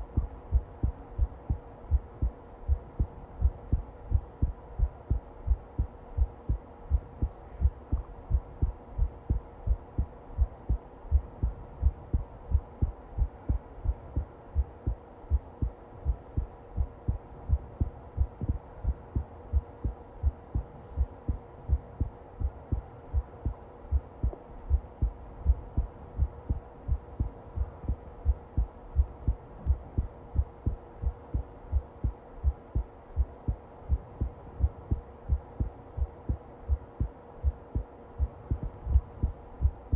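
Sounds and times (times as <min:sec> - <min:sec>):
faint steady hum: 0:00.0 - 0:39.9
heart beating: 0:00.0 - 0:39.9.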